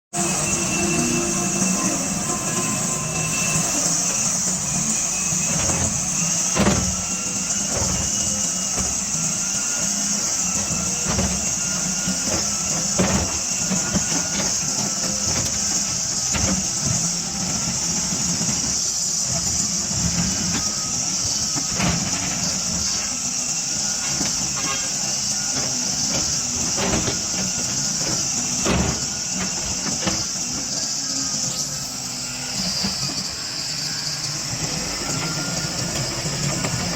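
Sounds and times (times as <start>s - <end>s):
excavator diesel engine hum: 0.1s - 36.9s
faint wavering whine: 0.2s - 36.9s.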